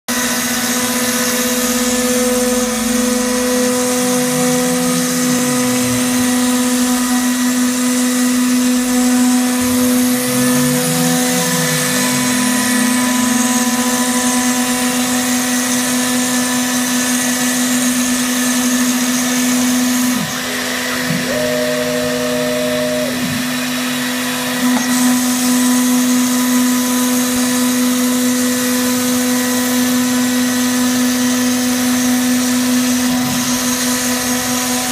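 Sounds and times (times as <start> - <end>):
machine moving whine: 0.1 - 30.2
router spindle whine: 0.1 - 34.9.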